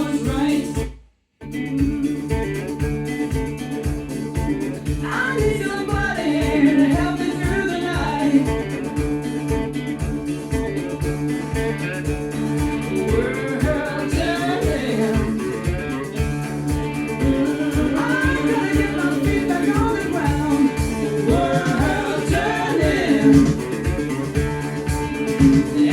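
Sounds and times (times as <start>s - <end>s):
song with singing and guitar: 0.0s - 25.9s.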